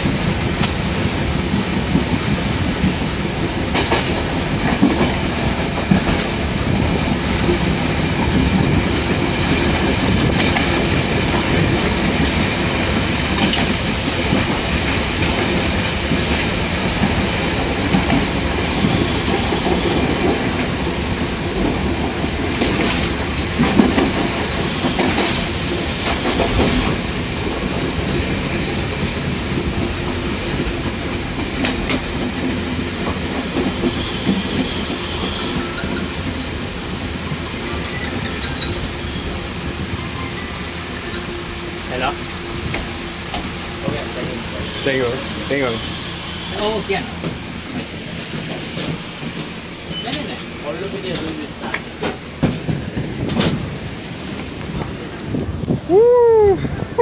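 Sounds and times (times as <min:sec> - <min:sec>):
wheels clacking over rail joints: 0:00.0 - 0:55.7
train rumbling: 0:00.0 - 0:57.0.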